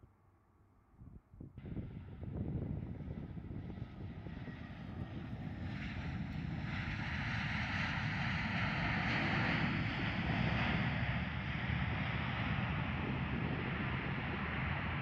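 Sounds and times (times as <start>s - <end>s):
jet engines rumbling: 1.6s - 15.0s.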